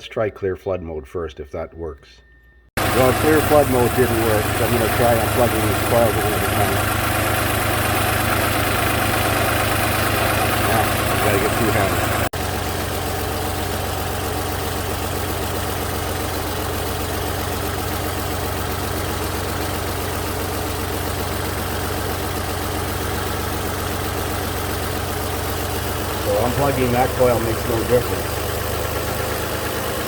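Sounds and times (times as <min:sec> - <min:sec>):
car engine idling rough: 0:02.8 - 0:30.0.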